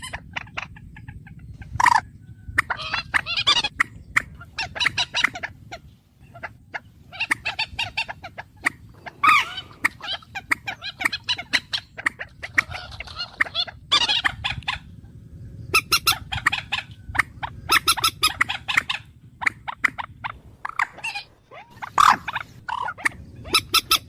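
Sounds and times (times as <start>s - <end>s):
birds chattering: 0.0s - 24.0s.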